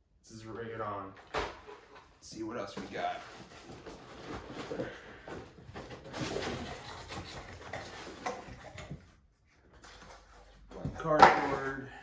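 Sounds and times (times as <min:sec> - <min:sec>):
cardboard rustling and scraping: 0:01.2 - 0:11.0.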